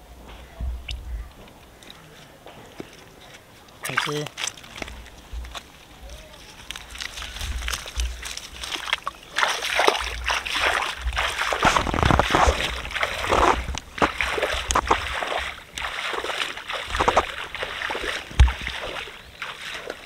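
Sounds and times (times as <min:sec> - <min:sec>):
water splashing around wading legs: 0:02.7 - 0:20.0.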